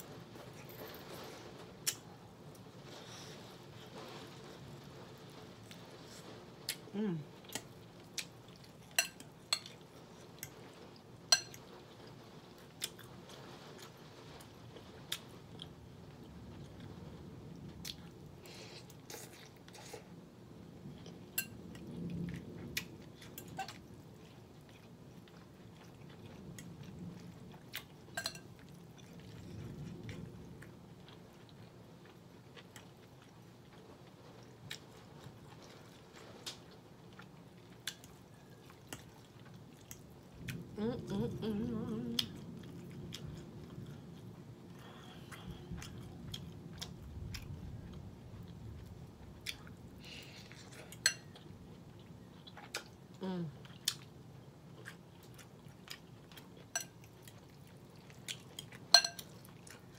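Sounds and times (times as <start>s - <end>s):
person chewing soft food: 5.6s - 20.2s, 20.9s - 59.9s.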